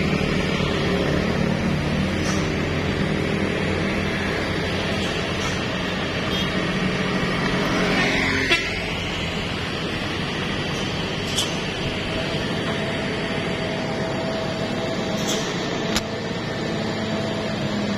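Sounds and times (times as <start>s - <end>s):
heavy truck engine droning: 0.0s - 17.9s.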